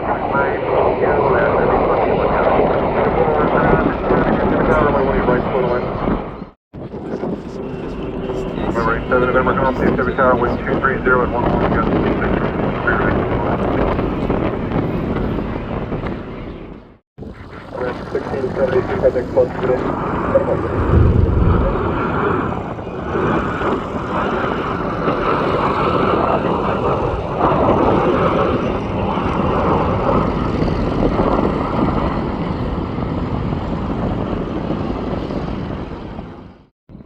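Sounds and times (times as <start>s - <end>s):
jet airliner engines roaring: 0.0s - 36.7s.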